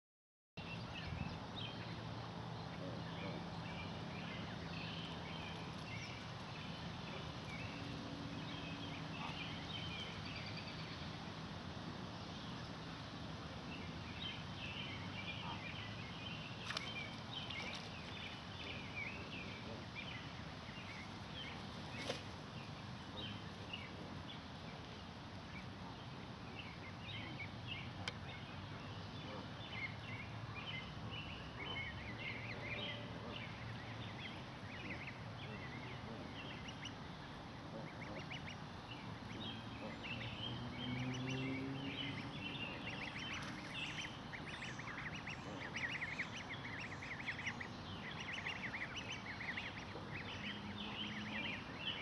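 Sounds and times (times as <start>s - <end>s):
faint low hum: 0.6s - 52.0s
outdoor background noise: 0.6s - 52.0s.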